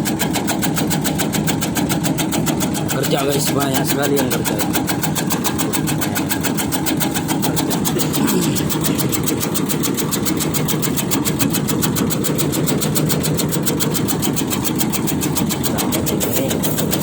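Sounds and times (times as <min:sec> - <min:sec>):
shredding machine engine drone: 0:00.0 - 0:17.0
blade chopping strokes: 0:00.2 - 0:17.0.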